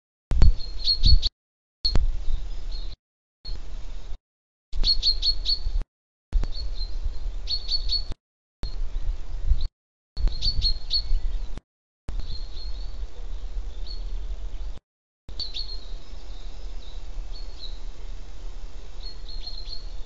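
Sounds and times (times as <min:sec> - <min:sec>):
small songbirds chirping: 0:00.4 - 0:01.3, 0:01.9 - 0:03.7, 0:04.8 - 0:05.8, 0:06.4 - 0:20.0.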